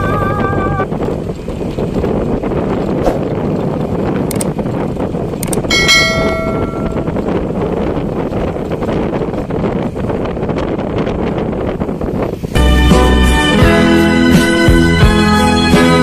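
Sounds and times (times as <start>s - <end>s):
road noise: 0.0s - 16.0s
rushing wind: 0.0s - 16.0s.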